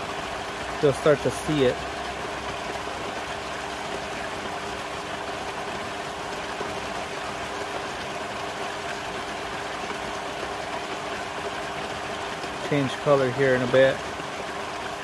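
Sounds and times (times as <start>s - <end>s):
pool pump humming: 0.0s - 15.0s
rush of flowing water: 0.0s - 15.0s.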